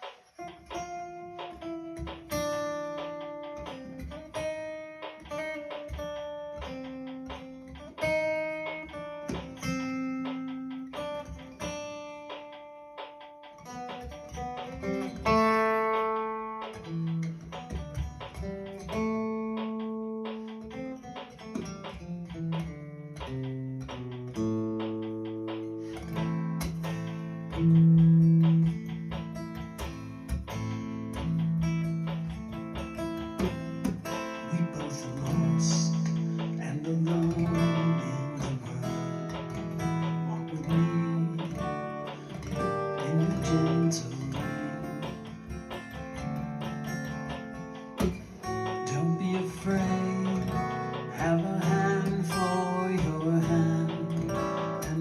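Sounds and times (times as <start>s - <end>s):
bossa nova guitar: 0.0s - 55.0s.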